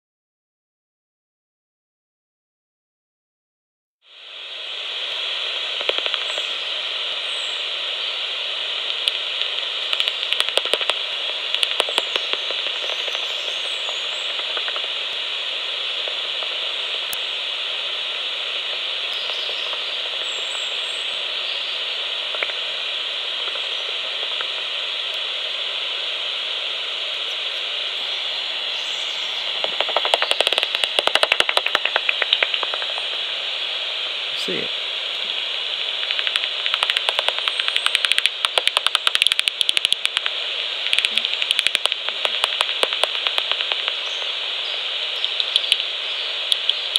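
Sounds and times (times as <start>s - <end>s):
bat detector hiss: 4.1s - 46.9s
rapid clicks of bat calls: 5.6s - 28.0s, 28.8s - 33.4s, 34.0s - 46.9s.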